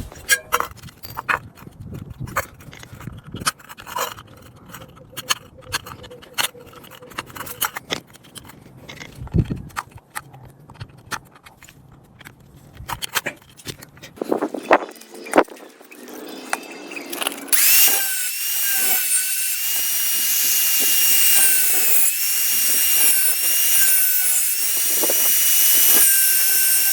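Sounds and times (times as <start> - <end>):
tools clicking and scraping: 0.0 - 26.9.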